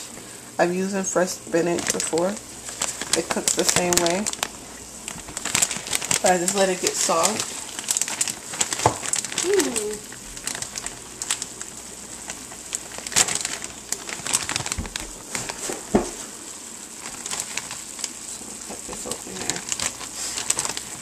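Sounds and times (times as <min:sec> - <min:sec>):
meat frying in a pan: 0:00.0 - 0:21.0
plastic bag crinkling: 0:01.5 - 0:21.0.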